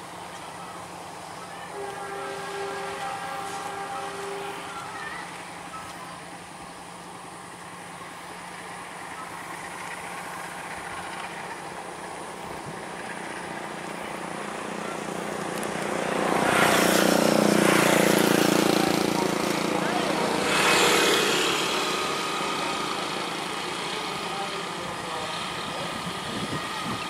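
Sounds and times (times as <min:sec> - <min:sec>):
locomotive engine humming: 0:00.0 - 0:27.0.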